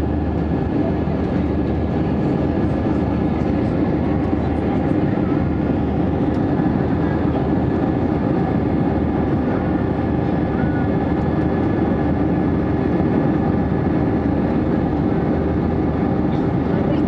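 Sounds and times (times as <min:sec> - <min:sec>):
aircraft cabin engine drone: 0:00.0 - 0:17.0.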